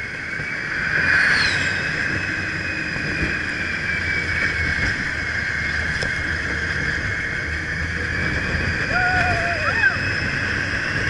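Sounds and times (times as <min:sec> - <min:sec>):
ride vehicle running noise: 0:00.0 - 0:11.0
rush of wind: 0:00.0 - 0:11.0.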